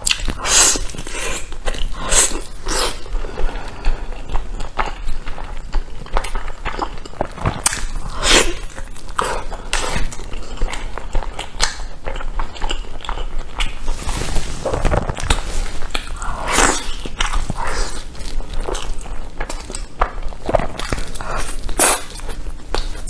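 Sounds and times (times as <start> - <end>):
mouth chewing sticky food: 0.0 - 23.0.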